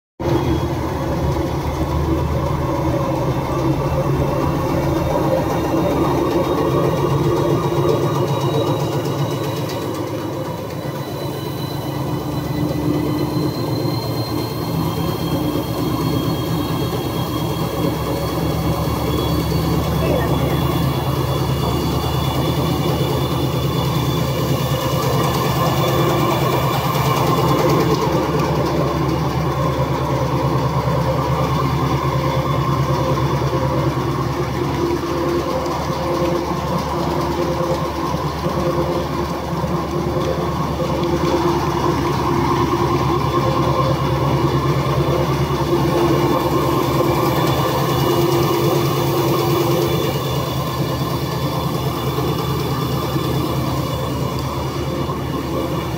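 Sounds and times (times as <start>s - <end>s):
machine humming and clattering: 0.2s - 55.9s.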